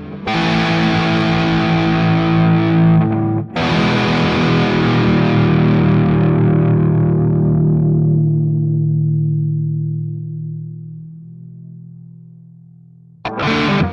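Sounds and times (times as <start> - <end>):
distorted electric guitar chords: 0.0 - 13.9.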